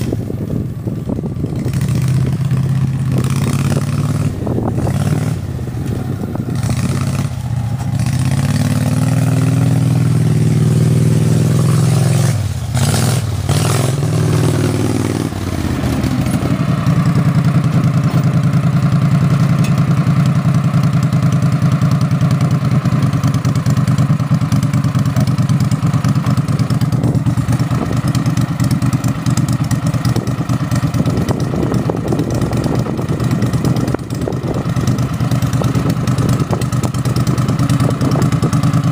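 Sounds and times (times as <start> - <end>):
atv engine revving and idling: 0.0 - 38.9.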